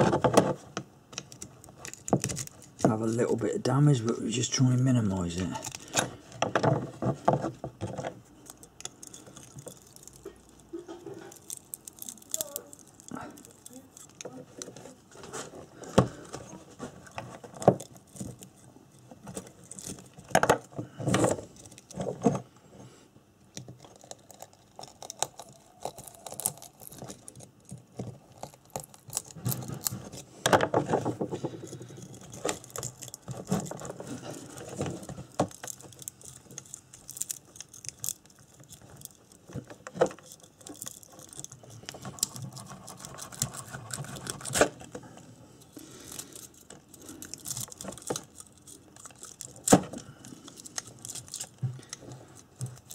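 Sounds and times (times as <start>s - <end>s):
rustling wire: 5.3s - 22.4s, 23.8s - 52.9s.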